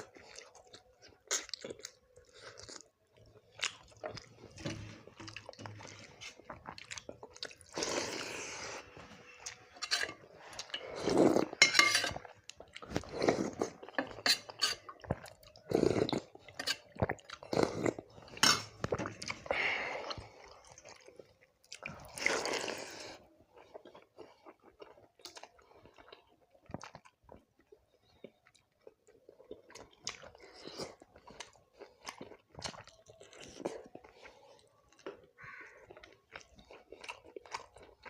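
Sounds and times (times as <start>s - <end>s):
chewing and crunching: 0.0s - 38.0s.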